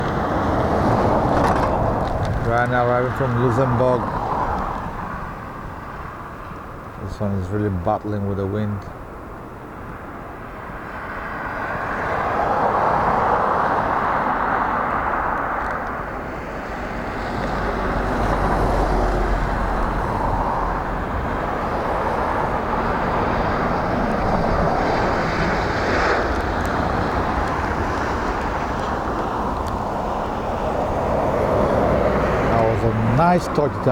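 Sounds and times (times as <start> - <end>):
jet engines landing: 0.0 - 5.9, 11.7 - 33.9
wind rumbling on microphone: 0.0 - 33.9.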